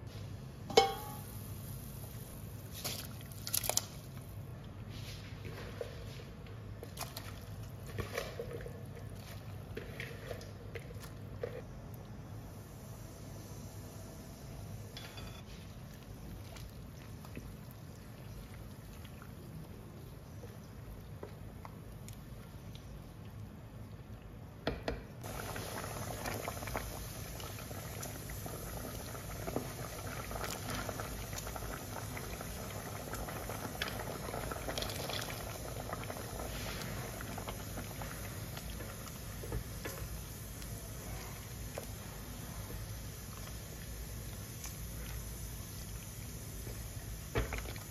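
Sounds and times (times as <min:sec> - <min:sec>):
porridge bubbling in a pot: 0:00.0 - 0:47.9.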